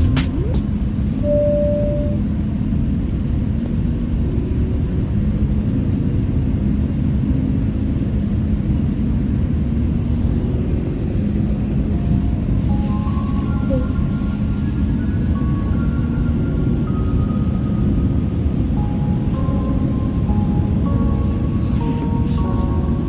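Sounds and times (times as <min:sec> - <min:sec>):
airliner engine rumble: 0:00.0 - 0:23.0.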